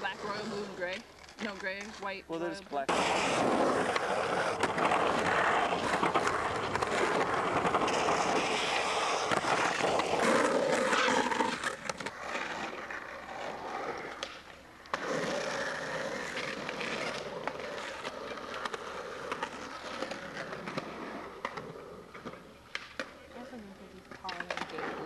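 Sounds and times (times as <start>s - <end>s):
skateboard wheels rolling on concrete: 0.0s - 25.0s
skateboard clacking on concrete: 0.1s - 2.2s, 2.9s - 25.0s.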